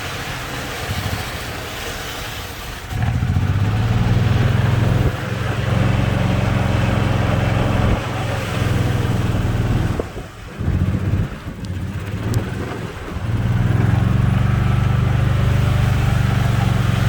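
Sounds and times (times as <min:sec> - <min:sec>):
golf cart engine running: 0:00.0 - 0:17.0.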